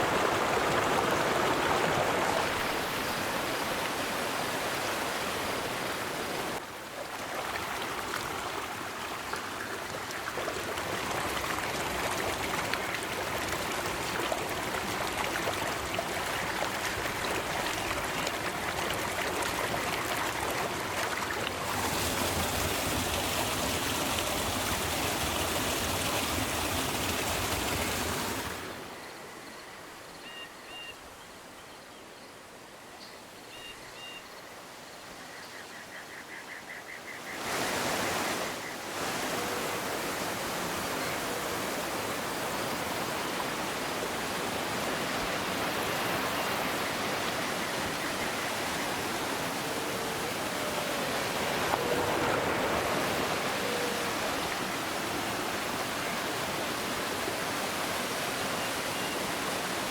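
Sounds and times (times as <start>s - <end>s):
rushing river water: 0.0s - 29.0s, 36.2s - 59.9s.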